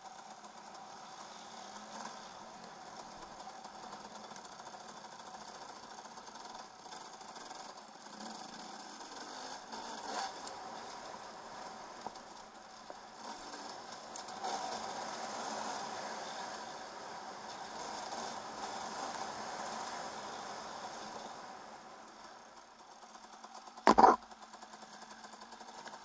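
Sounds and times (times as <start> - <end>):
two-stroke dirt bike running: 0.0 - 26.0.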